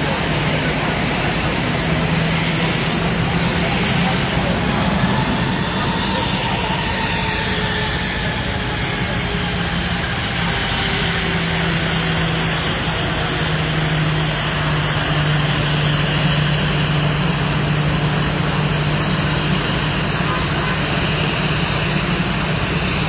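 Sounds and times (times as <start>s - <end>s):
airliner engine rushing noise: 0.0s - 23.0s
low hum dropping in pitch: 0.0s - 23.0s.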